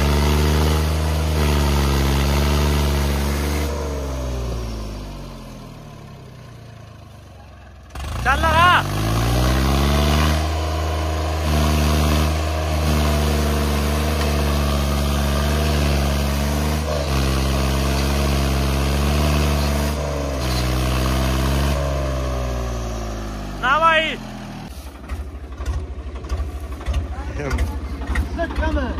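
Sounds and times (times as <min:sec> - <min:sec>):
tractor diesel engine straining: 0:00.0 - 0:28.9.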